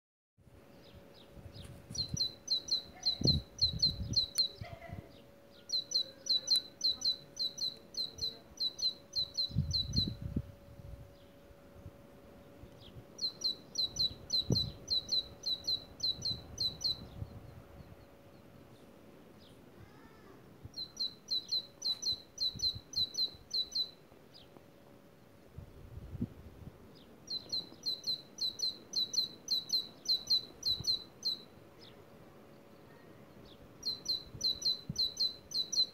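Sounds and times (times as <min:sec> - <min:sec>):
bird chirping: 0:00.7 - 0:10.5, 0:12.4 - 0:19.6, 0:20.7 - 0:24.6, 0:27.0 - 0:35.9.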